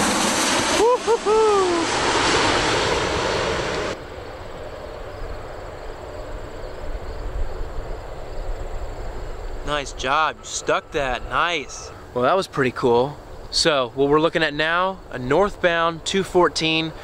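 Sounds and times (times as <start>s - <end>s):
jet rumble with high whine: 0.0s - 17.0s
loud jet engine noise: 0.0s - 17.0s.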